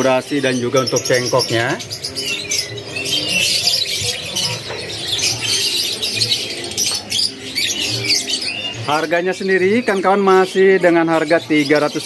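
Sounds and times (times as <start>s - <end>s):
canaries singing: 0.0s - 12.0s
faint background voices: 0.0s - 12.0s.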